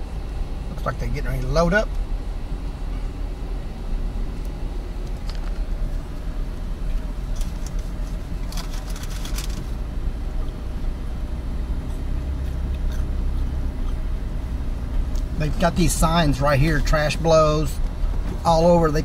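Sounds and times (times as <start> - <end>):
engine and tyre rumble in car cabin: 0.0 - 19.0.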